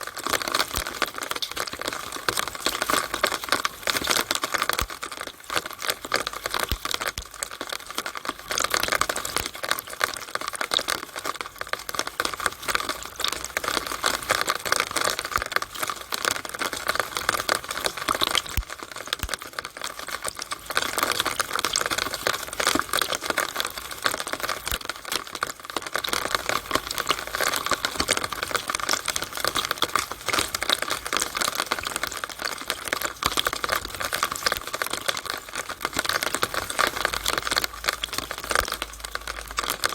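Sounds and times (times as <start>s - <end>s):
rainwater splashing through downspout: 0.0s - 39.9s.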